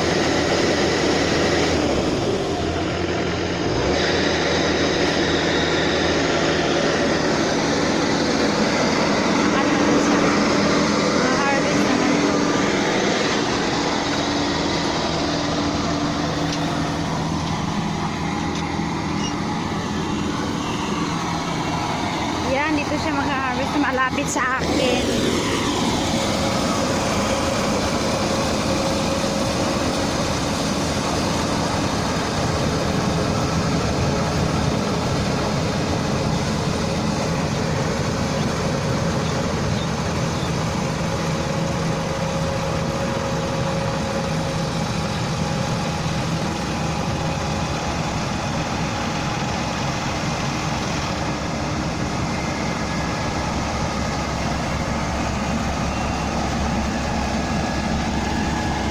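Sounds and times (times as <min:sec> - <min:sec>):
combine harvester drone: 0:00.0 - 0:58.9.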